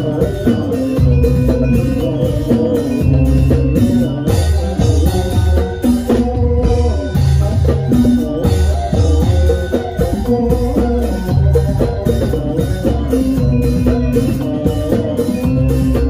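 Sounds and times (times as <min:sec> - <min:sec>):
drums beating a rhythm: 0:00.0 - 0:16.0
ringing metallophone tones: 0:00.0 - 0:16.0.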